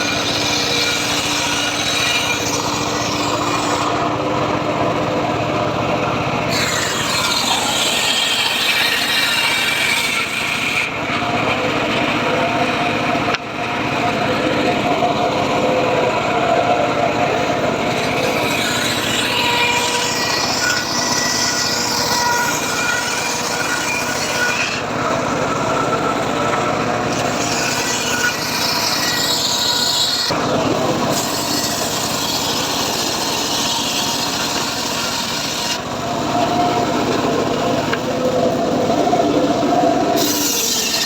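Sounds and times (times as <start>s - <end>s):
circular saw cutting wood: 0.0s - 41.0s.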